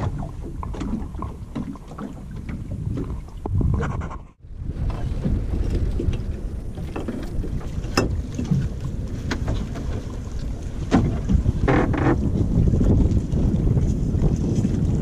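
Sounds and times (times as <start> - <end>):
sea water washing against boat: 0.0 - 15.0
wind buffeting microphone: 0.0 - 15.0.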